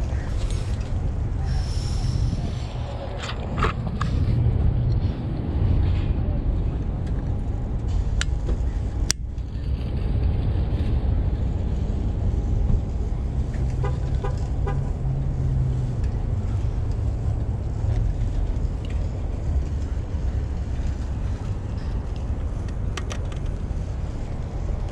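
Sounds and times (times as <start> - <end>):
low traffic rumble: 0.0 - 24.9.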